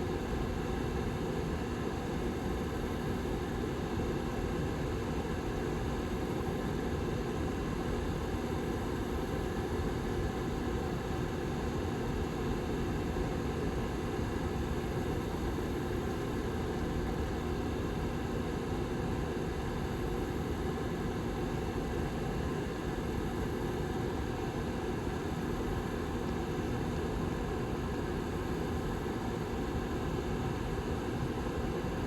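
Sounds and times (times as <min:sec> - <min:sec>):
faint constant hum: 0:00.0 - 0:32.0
heater fan airflow: 0:00.0 - 0:32.0.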